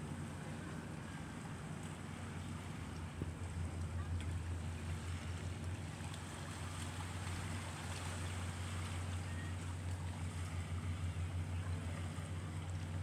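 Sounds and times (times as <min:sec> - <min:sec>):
boat engine idling: 0:00.0 - 0:13.0
faint wind and water: 0:00.0 - 0:13.0.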